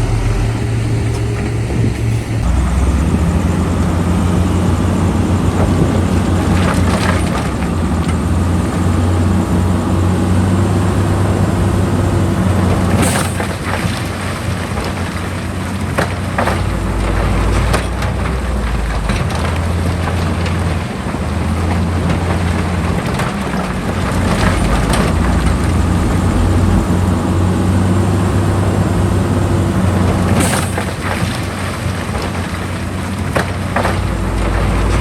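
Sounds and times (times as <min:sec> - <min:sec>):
diesel machine engine hum: 0:00.0 - 0:35.0.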